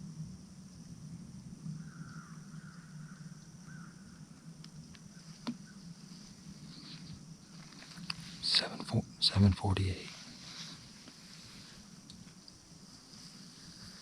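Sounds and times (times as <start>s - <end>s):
faint steady high drone: 0.0s - 14.0s.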